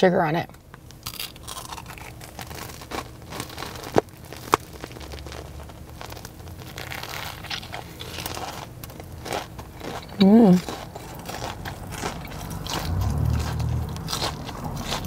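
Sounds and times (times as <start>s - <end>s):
crunchy biting and chewing: 0.9s - 15.0s.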